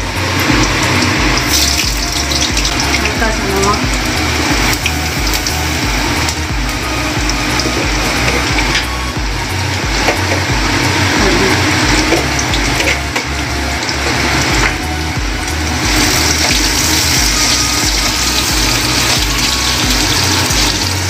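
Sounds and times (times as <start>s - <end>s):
low music beat: 0.0s - 21.0s
potatoes sizzling in oil: 0.0s - 21.0s.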